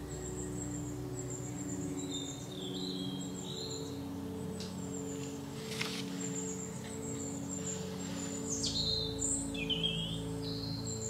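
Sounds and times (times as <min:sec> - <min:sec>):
birds chirping: 0:00.0 - 0:11.0
soft background music: 0:00.0 - 0:11.0.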